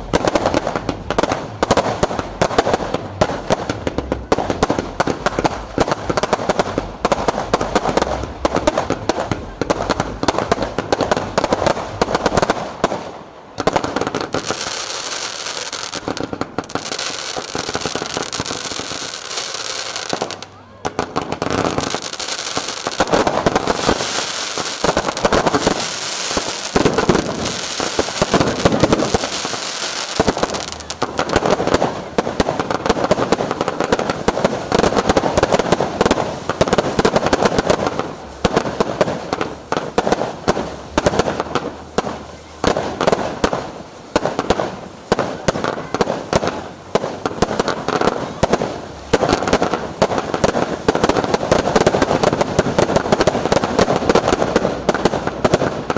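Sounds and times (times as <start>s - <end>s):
fireworks crackling and banging: 0.0s - 55.9s.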